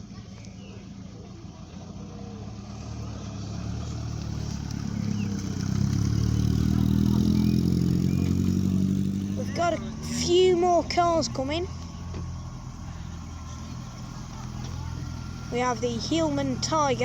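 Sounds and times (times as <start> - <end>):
car engine pulling away: 0.0 - 17.0.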